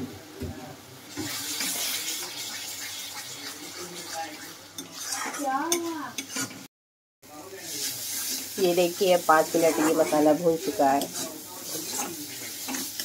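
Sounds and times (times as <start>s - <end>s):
spice paste sizzling in a pan: 1.0s - 6.6s, 7.4s - 13.0s
spatula scraping a pan: 1.1s - 6.7s, 7.7s - 13.0s.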